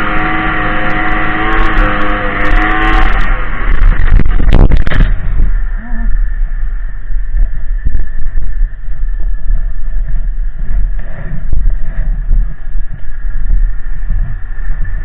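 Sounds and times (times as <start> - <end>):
faint steady whine: 0.0 - 15.0
two-stroke snowmobile engine running: 0.0 - 15.0.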